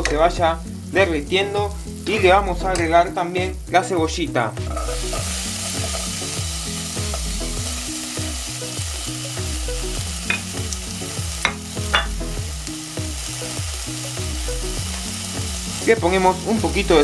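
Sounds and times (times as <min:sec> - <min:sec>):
onion sizzling in butter: 0:00.0 - 0:03.8, 0:04.6 - 0:17.0.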